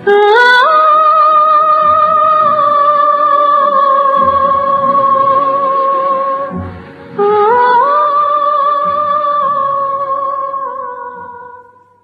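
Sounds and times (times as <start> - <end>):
quiet musical accompaniment: 0.0 - 12.0.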